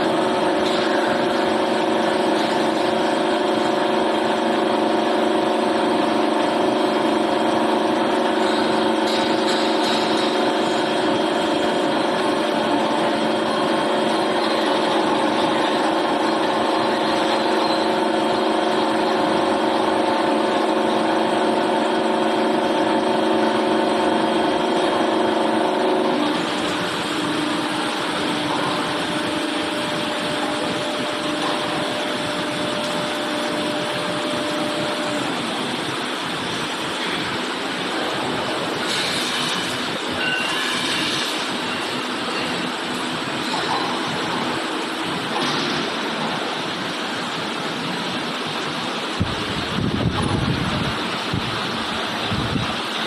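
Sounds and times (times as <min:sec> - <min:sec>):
machinery droning hum: 0:00.0 - 0:53.0.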